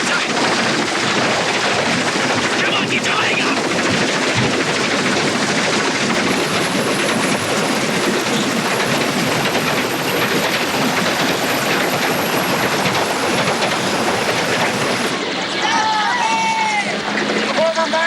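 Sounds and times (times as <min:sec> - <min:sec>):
train wheels rumbling and rattling: 0:00.0 - 0:17.8.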